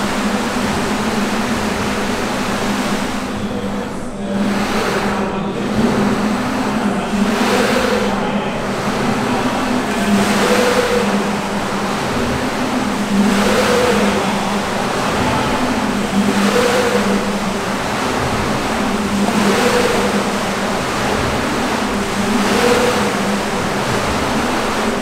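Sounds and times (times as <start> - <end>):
wave generator humming: 0.0 - 25.0
waves breaking and splashing: 0.0 - 25.0.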